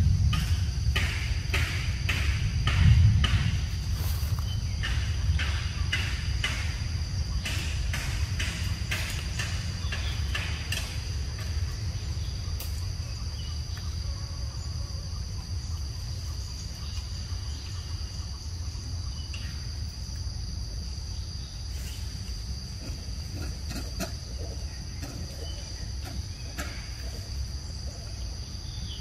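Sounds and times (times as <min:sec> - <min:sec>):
insect chorus buzzing: 0:00.0 - 0:29.0.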